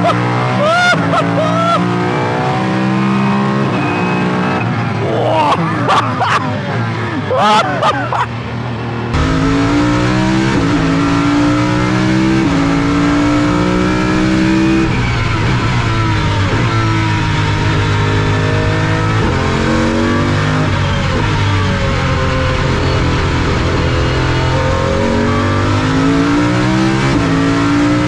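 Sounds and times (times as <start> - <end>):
car engine at full throttle: 0.0 - 28.0.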